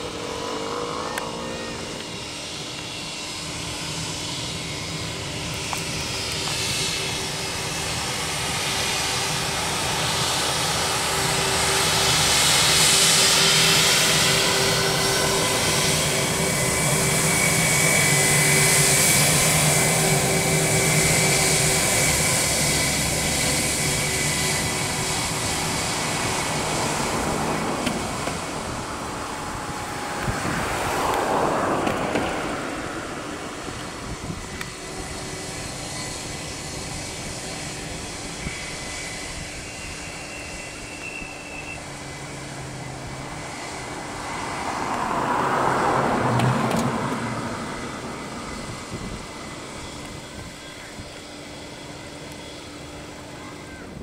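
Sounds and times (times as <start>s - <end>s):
jet engines taxiing: 0.0s - 54.0s.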